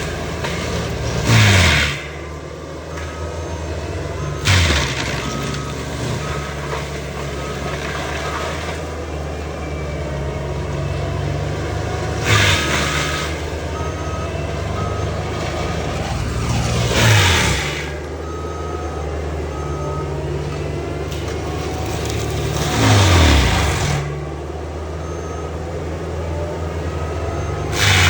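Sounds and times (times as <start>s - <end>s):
reversing alarm beeping: 0.0s - 28.0s
skid steer running under load: 0.0s - 28.0s.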